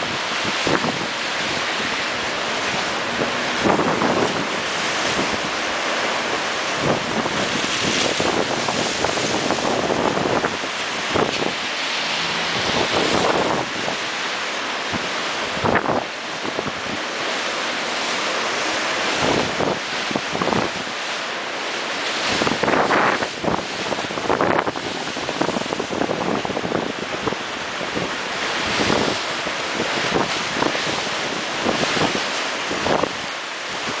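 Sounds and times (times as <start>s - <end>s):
wind buffeting microphone: 0.0s - 21.2s, 22.1s - 34.0s
surf breaking over rocks: 0.0s - 34.0s.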